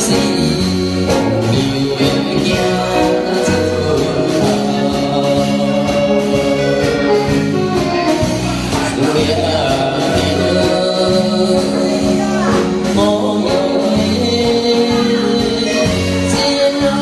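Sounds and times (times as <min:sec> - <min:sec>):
man singing into microphone: 0:00.0 - 0:07.5, 0:08.7 - 0:17.0
band playing: 0:00.0 - 0:17.0.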